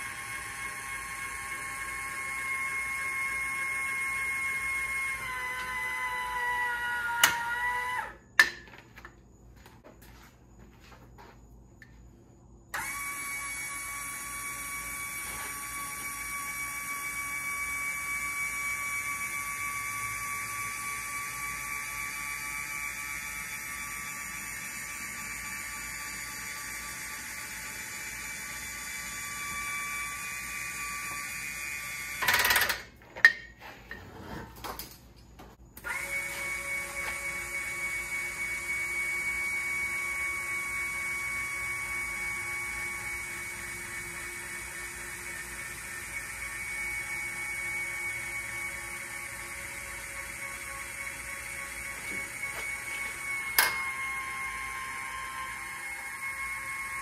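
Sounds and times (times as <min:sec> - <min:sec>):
electric motor whine: 0:00.0 - 0:08.2, 0:12.7 - 0:32.6, 0:35.8 - 0:57.0.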